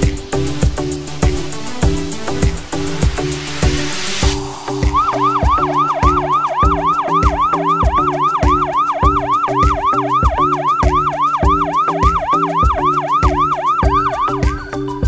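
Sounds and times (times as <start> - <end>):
drum beat and bass: 0.0 - 15.0
swooping siren-like synth tone: 1.1 - 14.8.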